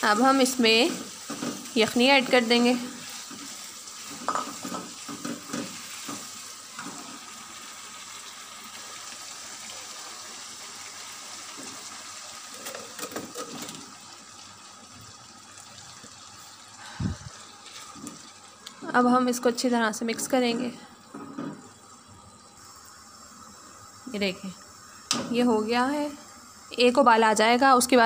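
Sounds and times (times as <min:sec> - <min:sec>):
liquid splashing and sizzling in pan: 0:00.0 - 0:27.1.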